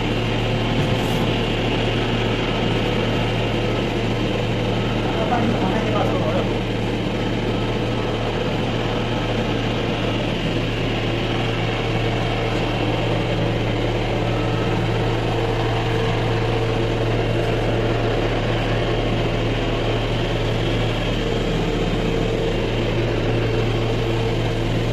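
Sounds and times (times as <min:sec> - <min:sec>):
cotton candy machine humming: 0:00.0 - 0:24.9.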